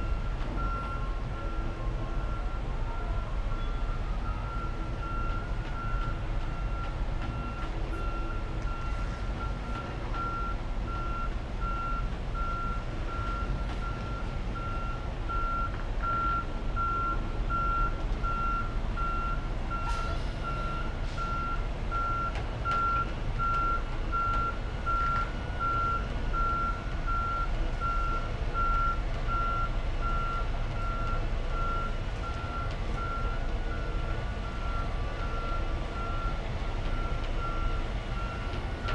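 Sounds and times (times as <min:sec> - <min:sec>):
truck backup alarm beeping: 0:00.0 - 0:38.9.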